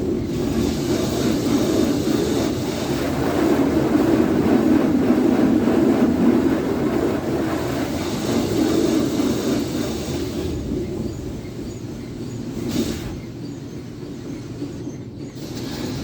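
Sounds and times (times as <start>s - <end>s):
car wash machinery rumbling: 0.0s - 16.0s.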